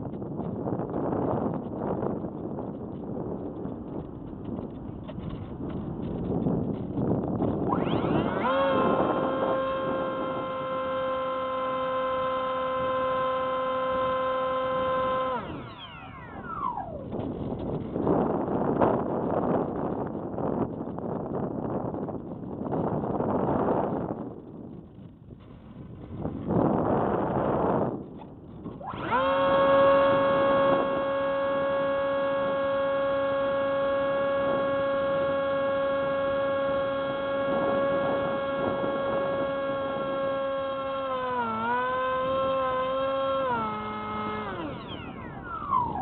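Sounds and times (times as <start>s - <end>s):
electric motor and propeller whine: 0.0s - 46.0s
rush of wind: 0.0s - 46.0s.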